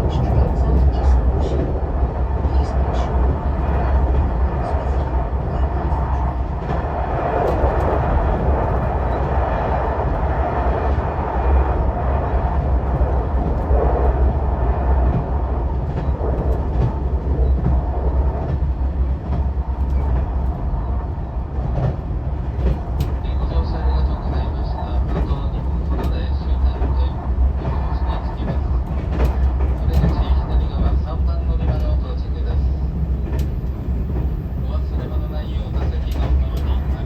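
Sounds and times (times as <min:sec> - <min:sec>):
faint clicks from rails: 0:00.0 - 0:10.3, 0:15.0 - 0:37.0
train rumble inside passenger car: 0:00.0 - 0:37.0.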